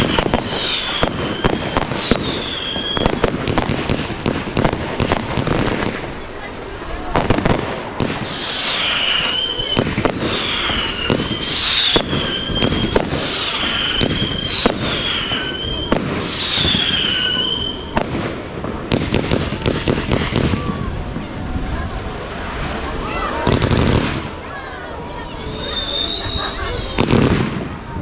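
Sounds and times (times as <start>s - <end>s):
sharp firework cracks: 0.0s - 6.5s, 7.1s - 20.9s, 23.4s - 24.5s, 26.8s - 28.0s
firework bangs: 0.0s - 28.0s
whistling fireworks: 0.0s - 28.0s.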